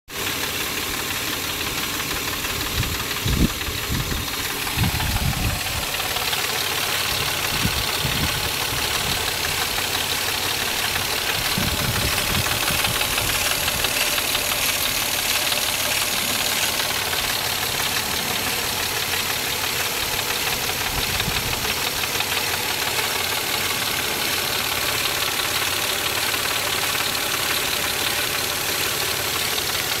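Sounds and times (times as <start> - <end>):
car engine running: 0.1 - 30.0.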